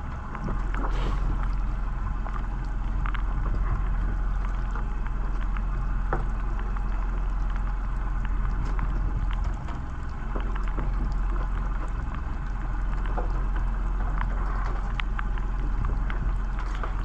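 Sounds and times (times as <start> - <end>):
boat engine running: 0.0 - 17.0
rain ticks: 0.0 - 17.0.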